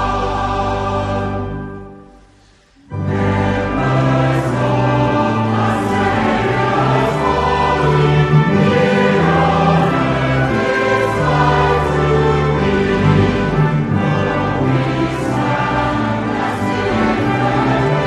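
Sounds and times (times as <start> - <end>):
choir singing a hymn: 0.0 - 18.0
sustained instrumental accompaniment: 0.0 - 18.0.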